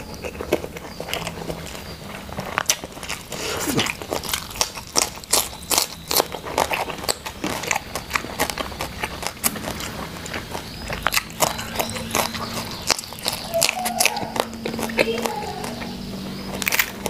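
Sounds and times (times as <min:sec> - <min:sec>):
crunching and chewing cucumber: 0:00.0 - 0:17.0.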